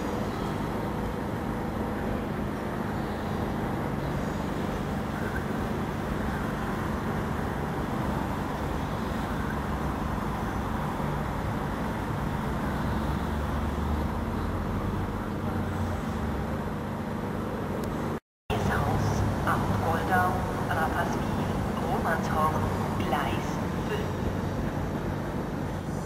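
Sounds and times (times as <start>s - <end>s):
low steady hum: 0.0s - 26.0s
railway station rumble: 0.0s - 26.0s.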